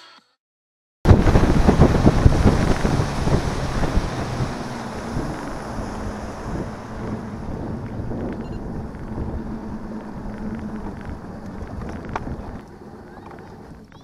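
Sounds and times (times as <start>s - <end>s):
boat motor humming: 1.1s - 14.0s
water against hull: 1.1s - 14.0s
wind buffeting microphone: 1.1s - 14.0s.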